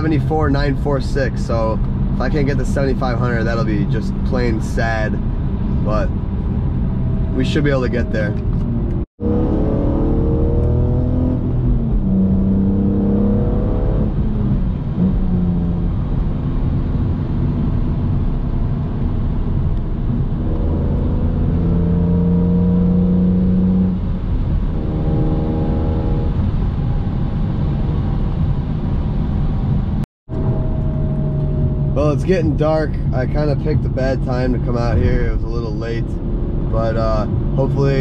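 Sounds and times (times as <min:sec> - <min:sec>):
car engine at highway speed: 0:00.0 - 0:38.0
road rumble: 0:00.0 - 0:38.0.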